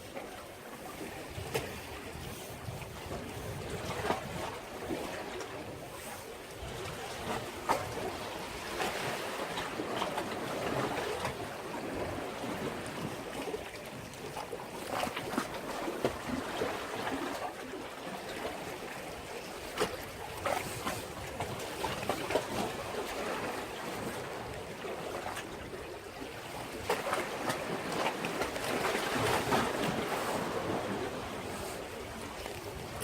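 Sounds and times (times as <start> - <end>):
waves splashing against breakwater: 0.0 - 33.0.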